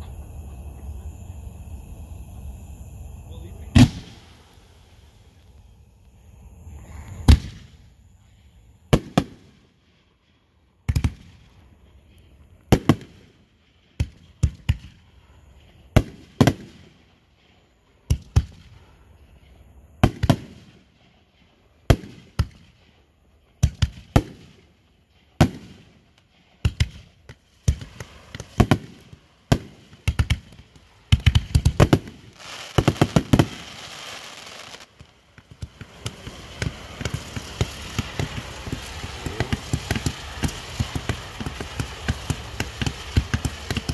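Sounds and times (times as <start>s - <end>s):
fireworks banging and crackling: 0.0s - 43.9s.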